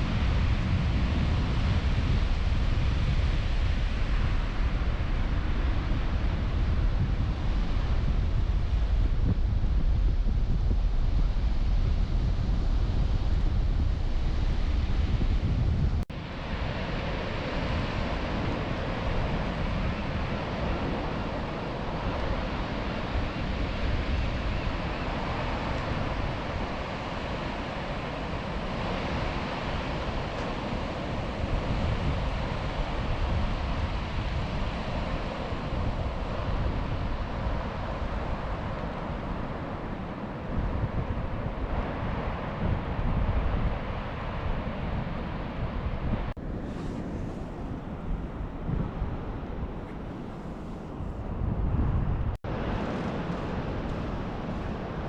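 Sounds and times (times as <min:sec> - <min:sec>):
ocean surf washing on beach: 0:00.0 - 0:55.0
wind on microphone: 0:00.0 - 0:55.0.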